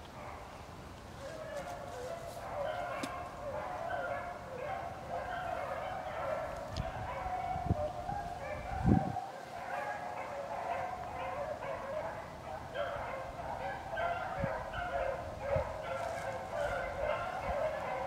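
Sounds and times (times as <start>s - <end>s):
dogs baying: 1.2s - 18.0s.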